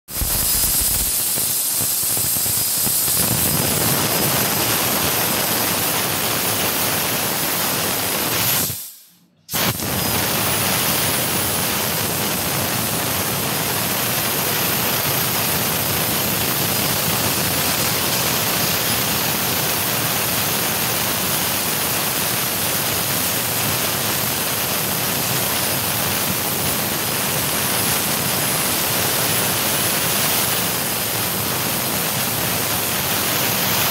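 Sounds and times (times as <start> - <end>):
hiss of laser assist gas: 0.1 - 19.4, 24.6 - 33.9.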